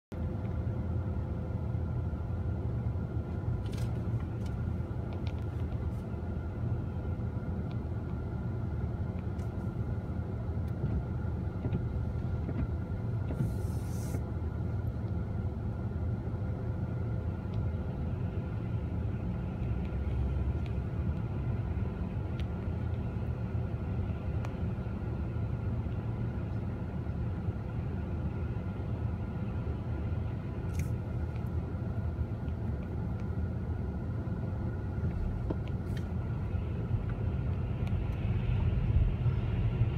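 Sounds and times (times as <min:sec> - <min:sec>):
faint steady hum: 0:00.1 - 0:39.9.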